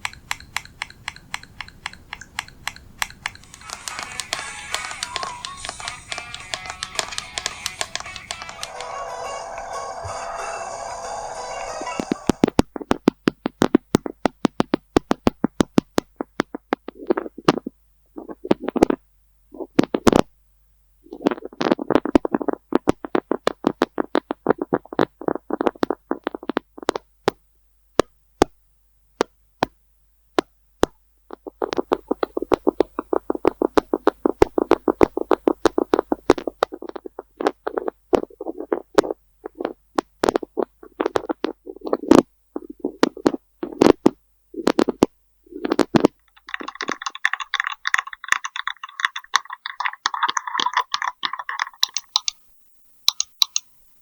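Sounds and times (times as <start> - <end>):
fingers tapping on an object: 0.0 - 8.7, 12.0 - 19.0, 21.1 - 27.4, 30.4 - 52.4, 53.1 - 53.7.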